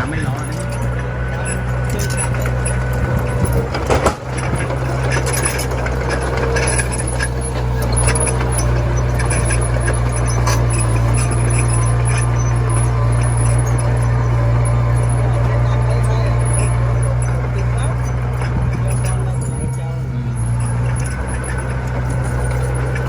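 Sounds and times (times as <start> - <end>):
bulldozer diesel engine running: 0.0 - 23.0
metallic clinks: 0.3 - 23.0.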